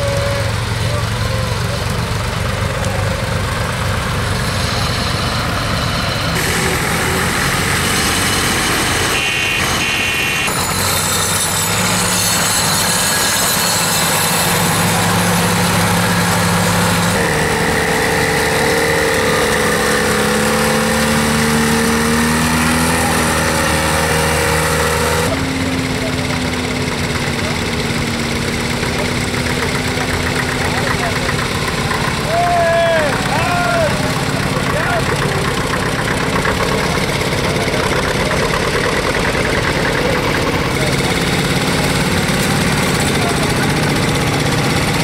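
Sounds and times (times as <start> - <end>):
tractor engines driving past: 0.0 - 45.0.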